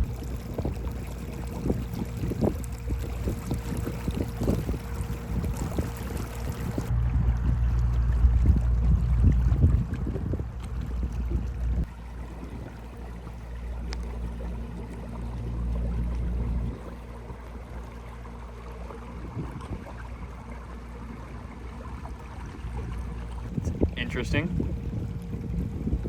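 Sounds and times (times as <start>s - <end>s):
electric trolling motor humming: 0.0s - 26.0s
heavy low rumble: 0.0s - 26.0s
water washing around hull: 0.0s - 26.0s.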